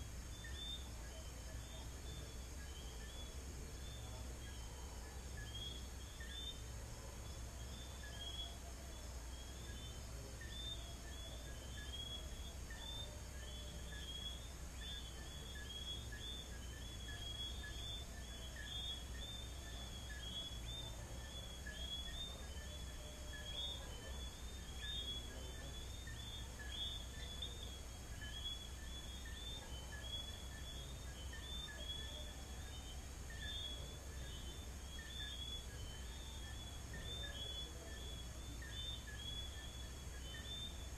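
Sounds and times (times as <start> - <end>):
crickets trilling: 0.0 - 40.9
frogs whistling and chirping: 0.0 - 40.9.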